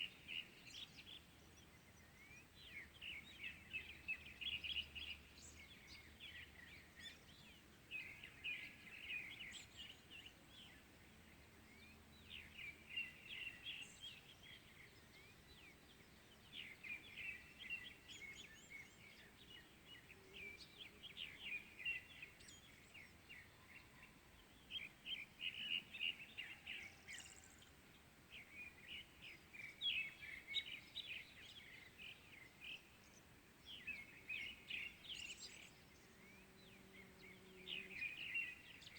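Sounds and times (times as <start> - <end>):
faint outdoor background: 0.0 - 38.9
small songbirds chirping: 0.0 - 38.9.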